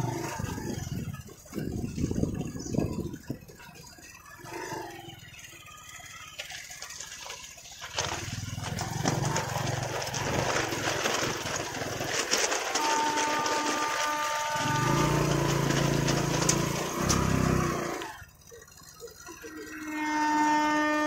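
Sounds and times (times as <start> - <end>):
motorbike engine running: 0.0 - 21.0.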